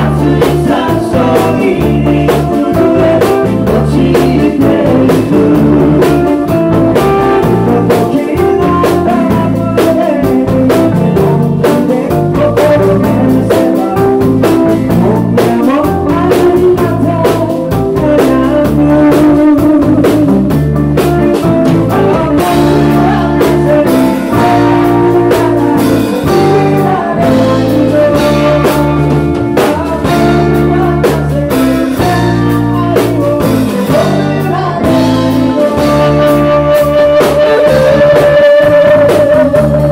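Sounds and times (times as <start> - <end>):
drum kit: 0.0 - 39.9
electric guitars: 0.0 - 39.9
man singing lead: 0.0 - 39.9.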